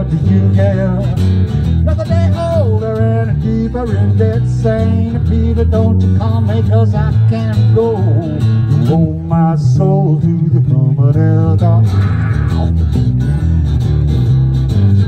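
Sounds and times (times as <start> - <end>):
acoustic guitar: 0.0 - 15.0
electric bass guitar: 0.0 - 15.0.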